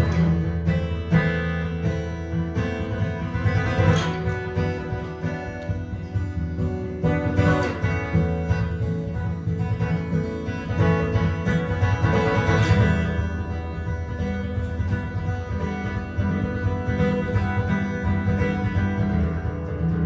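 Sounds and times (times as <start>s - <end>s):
jazz guitar playing: 0.0s - 20.0s.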